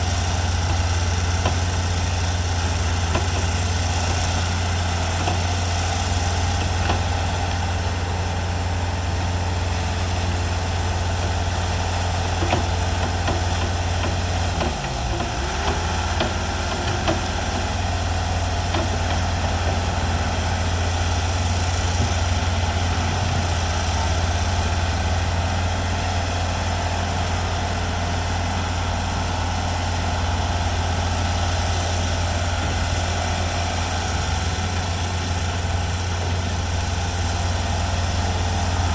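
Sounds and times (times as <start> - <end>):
construction machinery engine drone: 0.0 - 38.9.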